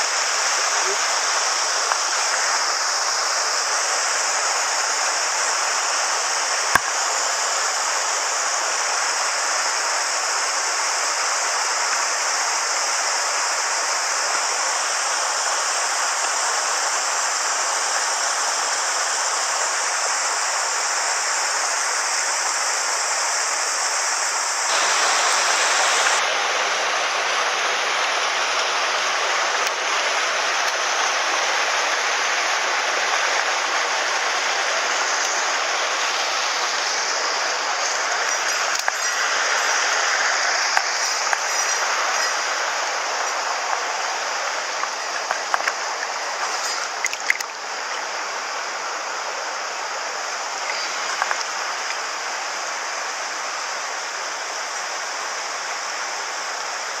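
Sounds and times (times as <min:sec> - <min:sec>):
stream rushing water: 0:00.0 - 0:57.0.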